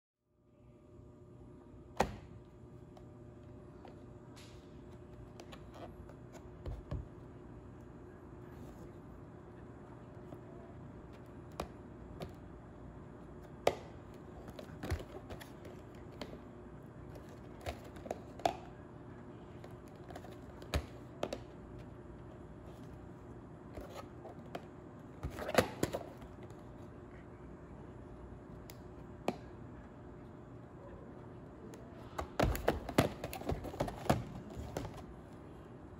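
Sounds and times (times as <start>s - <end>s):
faint room hum: 0.2s - 35.9s.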